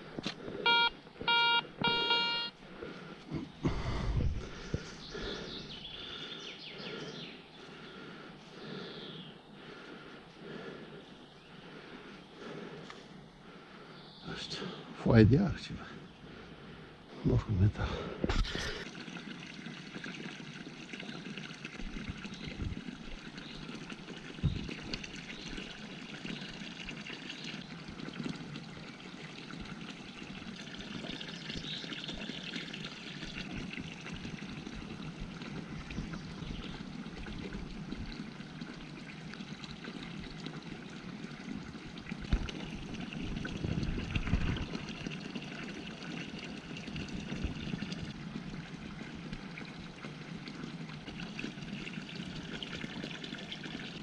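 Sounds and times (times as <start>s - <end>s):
brook trickling over stones: 0.0s - 9.9s, 17.2s - 54.0s.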